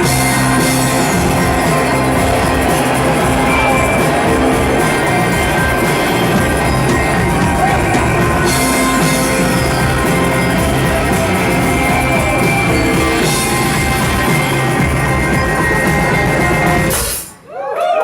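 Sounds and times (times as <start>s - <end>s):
live rock band playing: 0.0s - 17.4s.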